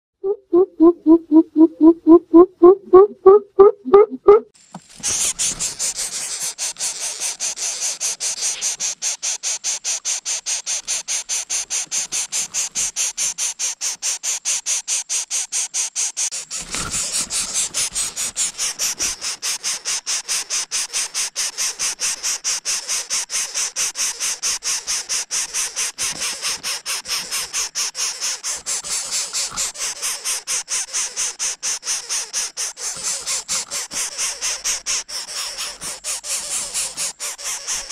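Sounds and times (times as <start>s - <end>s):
nestlings begging with pulsing hiss: 4.9s - 37.9s.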